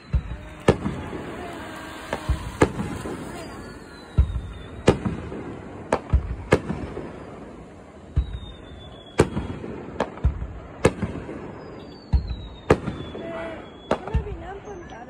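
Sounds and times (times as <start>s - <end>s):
fireworks shells bursting: 0.0s - 13.2s
small firework pops: 0.0s - 15.0s.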